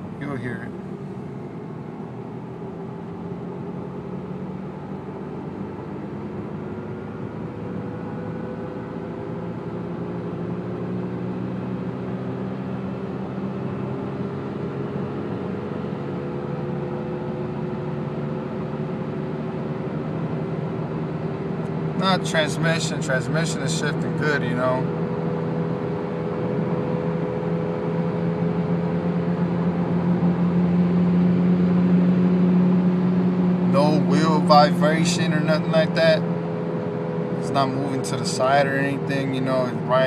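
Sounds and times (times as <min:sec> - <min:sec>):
car accelerating: 0:00.0 - 0:40.0
road noise: 0:00.0 - 0:40.0.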